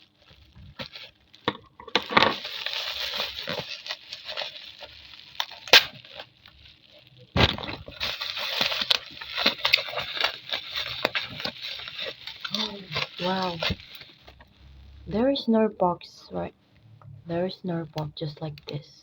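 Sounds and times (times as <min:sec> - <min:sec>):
bubble wrap crinkling: 0:00.0 - 0:15.5.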